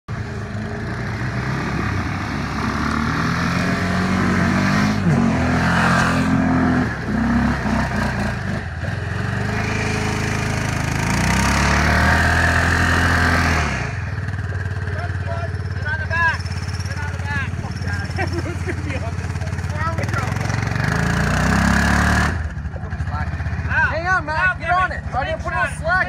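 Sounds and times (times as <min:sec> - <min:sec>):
atv engines revving: 0:00.1 - 0:26.0.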